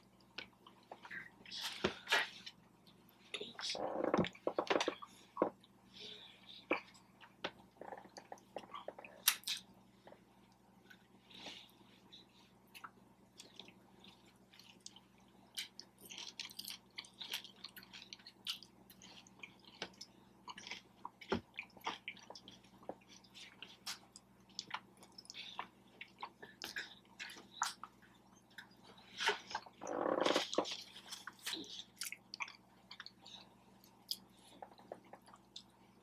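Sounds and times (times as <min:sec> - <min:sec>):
person chewing food: 0:06.6 - 0:36.0.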